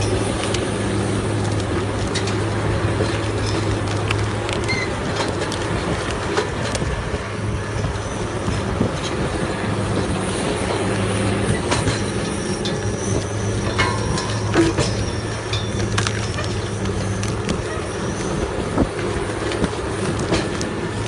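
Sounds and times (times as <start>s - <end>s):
stump grinder engine drone: 0.0s - 21.0s.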